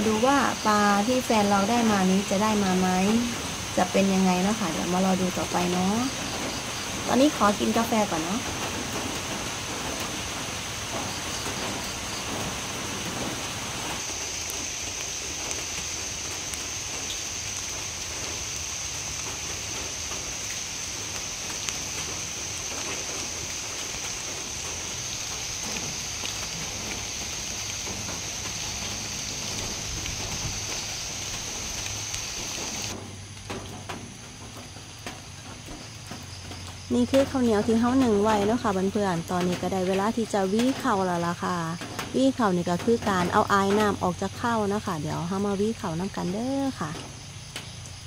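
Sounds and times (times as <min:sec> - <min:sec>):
rain falling on leaves: 0:00.0 - 0:48.0.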